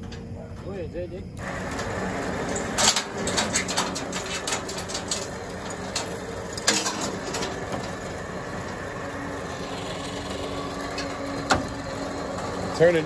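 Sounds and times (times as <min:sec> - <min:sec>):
engine idling: 0:00.0 - 0:13.0
tow chain clanking: 0:01.4 - 0:13.0.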